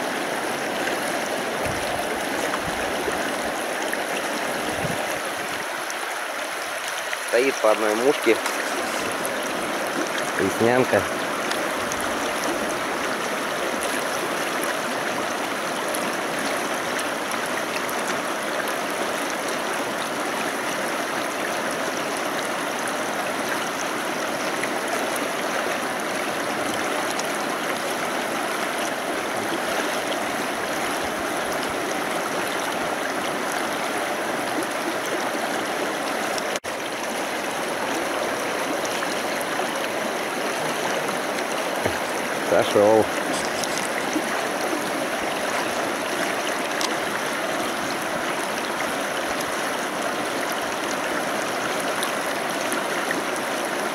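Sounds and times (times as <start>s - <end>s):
river rushing: 0.0s - 53.9s.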